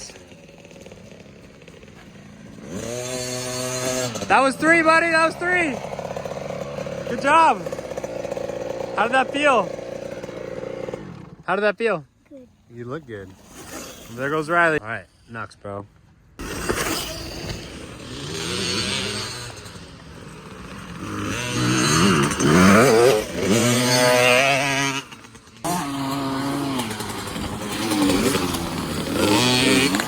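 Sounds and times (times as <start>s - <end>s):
dirt bike engine revving: 0.0s - 11.8s, 12.5s - 15.2s, 16.4s - 30.0s.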